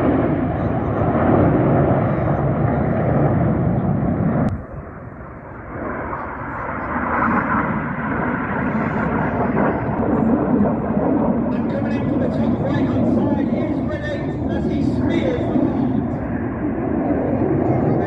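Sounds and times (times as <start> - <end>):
jet engines roaring past: 0.0 - 18.0.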